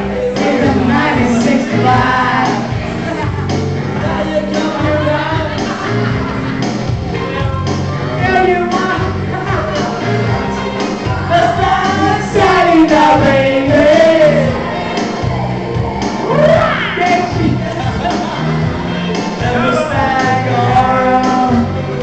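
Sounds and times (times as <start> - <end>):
loud backing track: 0.0 - 22.0
people singing into microphones: 0.0 - 22.0.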